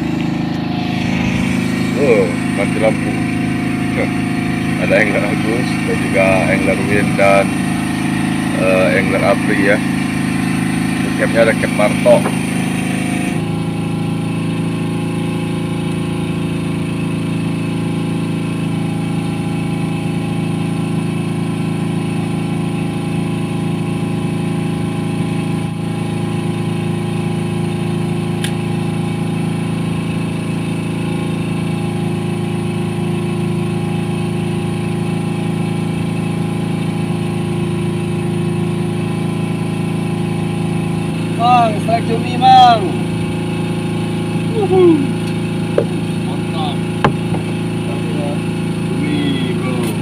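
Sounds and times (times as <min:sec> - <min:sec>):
boat engine humming: 0:00.0 - 0:50.0.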